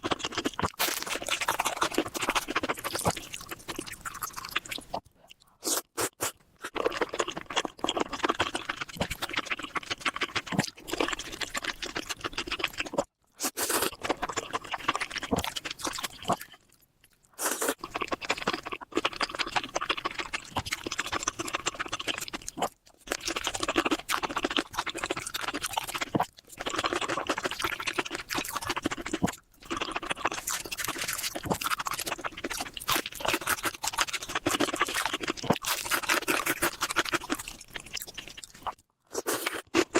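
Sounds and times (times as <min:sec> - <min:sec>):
person chewing and smacking: 0:00.0 - 0:39.9.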